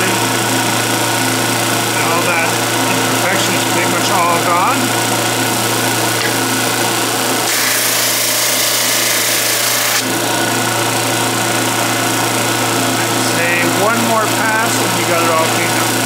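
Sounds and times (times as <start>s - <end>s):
board sanding: 0.0s - 16.0s
drum sander motor humming: 0.0s - 16.0s.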